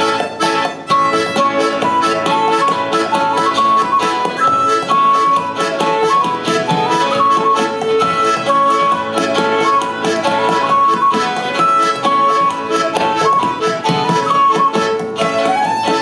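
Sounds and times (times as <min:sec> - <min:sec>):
fiddle: 0:00.0 - 0:16.0
piano accordion: 0:00.0 - 0:16.0
strummed acoustic guitar: 0:00.0 - 0:16.0.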